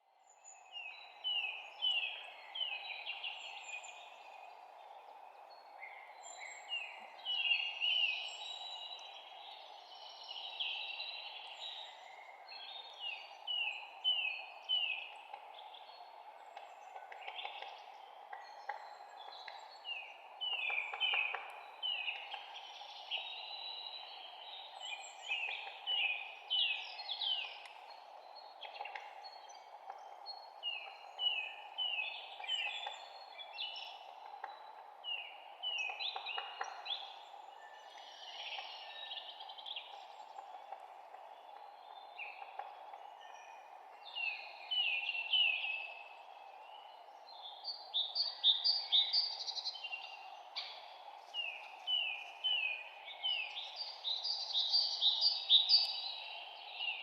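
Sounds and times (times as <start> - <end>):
songbirds chirping and singing: 0.3 - 57.0.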